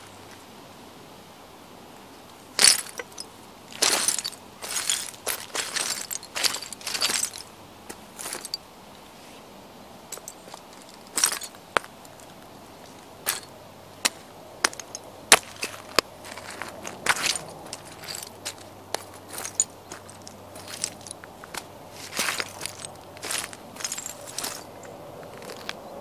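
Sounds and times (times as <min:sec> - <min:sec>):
boots crunching broken plates: 0:02.6 - 0:08.6, 0:10.2 - 0:25.8.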